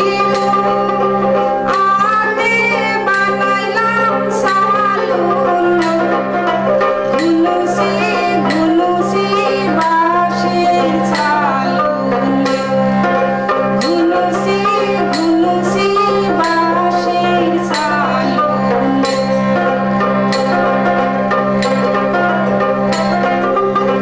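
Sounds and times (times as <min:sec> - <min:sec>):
woman singing folk song: 0:00.0 - 0:19.6
harmonium drone: 0:00.0 - 0:24.0
percussion beat: 0:00.0 - 0:24.0.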